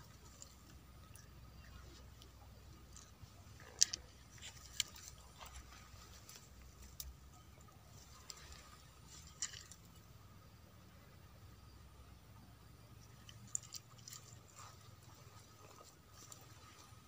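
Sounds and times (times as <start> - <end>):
quiet background hum: 0.0 - 17.0.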